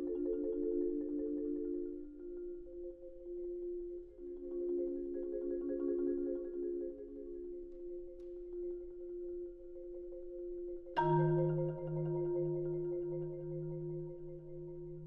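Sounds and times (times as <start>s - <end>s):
marimba playing: 0.0s - 15.0s.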